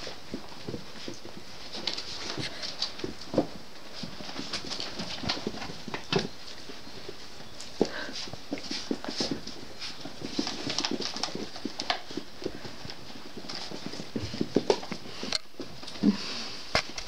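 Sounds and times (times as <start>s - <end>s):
puppies scuffling on carpet: 0.0s - 17.0s.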